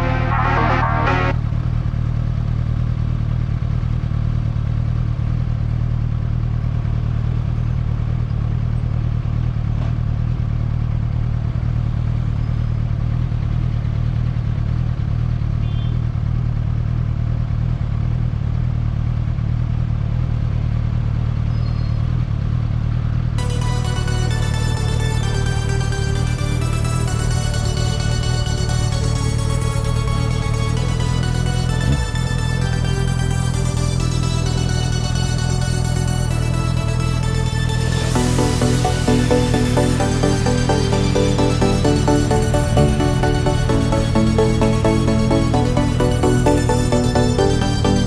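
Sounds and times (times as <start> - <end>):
motorcycle engine cruising: 0.0 - 48.0.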